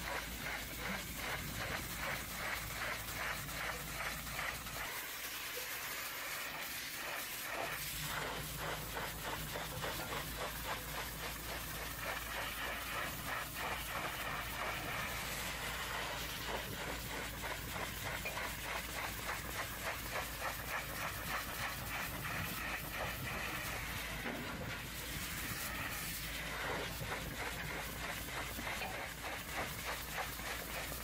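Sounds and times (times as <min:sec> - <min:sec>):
pressure washer spray hissing: 0:00.0 - 0:31.0.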